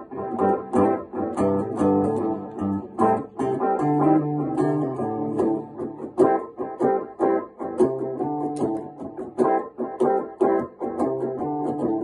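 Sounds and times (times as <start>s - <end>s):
clean electric guitar: 0.0s - 12.0s.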